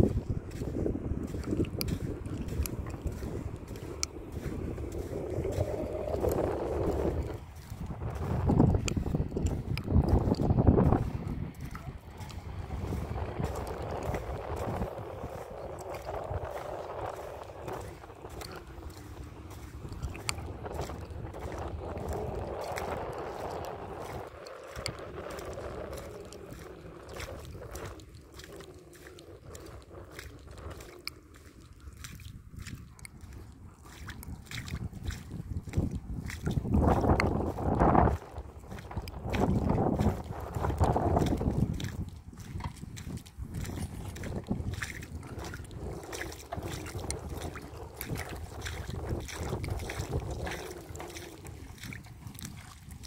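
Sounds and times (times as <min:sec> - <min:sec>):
scrapes in wet sand: 0:00.0 - 0:53.0
small splashes in shallow water: 0:00.0 - 0:53.0
wind rumbling on microphone: 0:00.0 - 0:53.0
faint clicks and ticks: 0:00.6 - 0:53.0.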